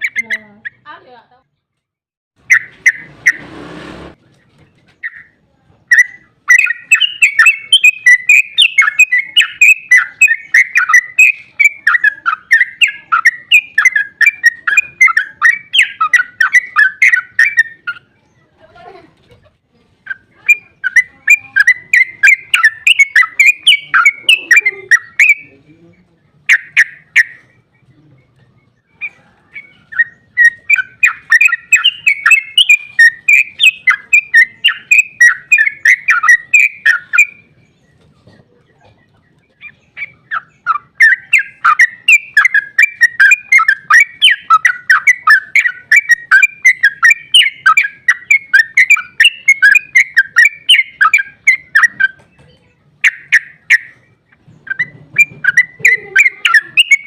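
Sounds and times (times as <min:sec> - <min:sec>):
bird chattering song: 0:00.0 - 0:01.7, 0:02.4 - 0:03.5, 0:04.3 - 0:18.8, 0:19.6 - 0:57.0.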